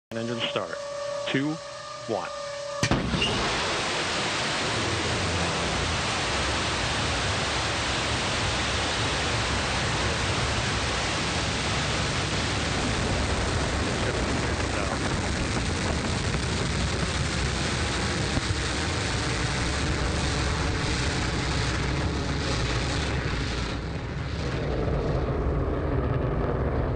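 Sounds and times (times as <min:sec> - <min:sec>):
rocket engine roaring: 0:00.1 - 0:26.9.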